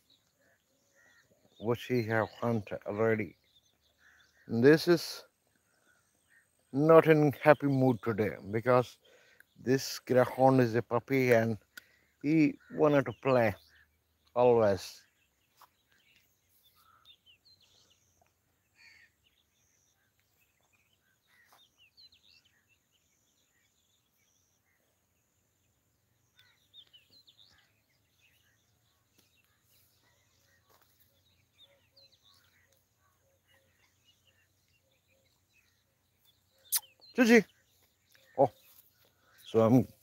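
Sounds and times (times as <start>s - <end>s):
faint bird chirps: 0.0s - 40.0s.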